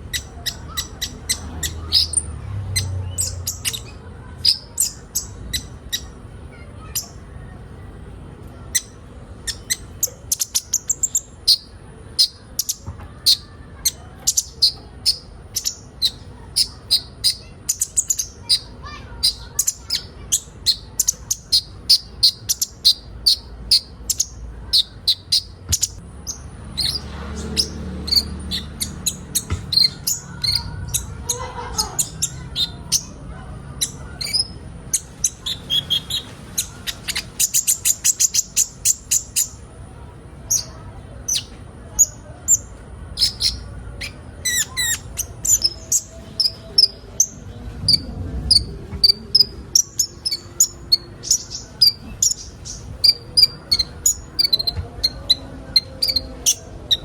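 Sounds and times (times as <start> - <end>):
birds chirping fast: 0.0 - 57.0.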